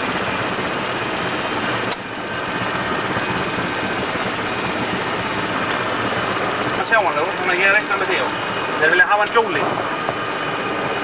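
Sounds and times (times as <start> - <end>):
aircraft cockpit engine noise: 0.0 - 11.0.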